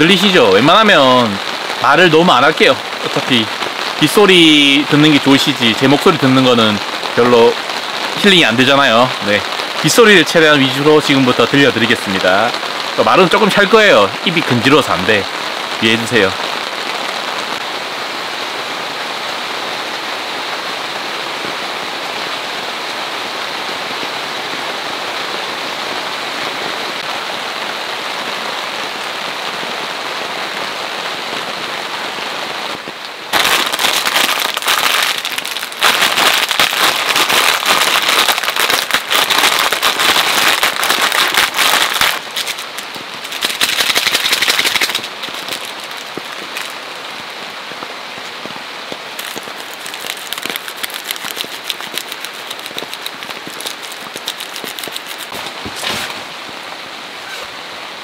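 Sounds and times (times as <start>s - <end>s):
dense patter of raindrops: 0.0s - 58.0s
steady rain: 0.0s - 58.0s.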